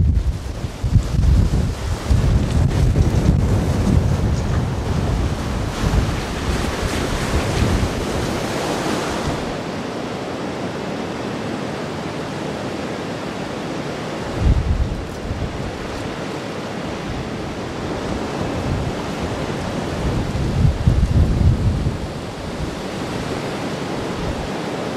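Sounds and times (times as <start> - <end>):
wind buffeting the microphone: 0.0 - 9.8, 14.1 - 24.9
waves crashing over a wall: 0.0 - 24.9
water rushing across a road: 0.2 - 24.9.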